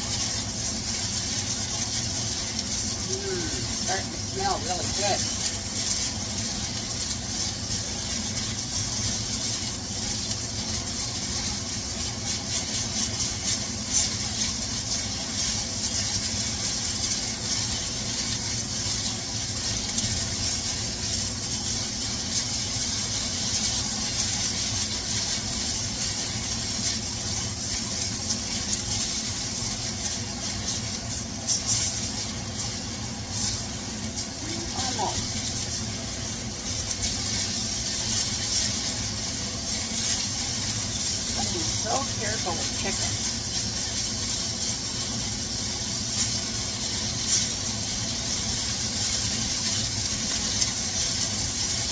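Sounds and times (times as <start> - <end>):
chicken sizzling in hot oil: 0.0 - 51.9
utensils scraping in pan: 0.0 - 51.9.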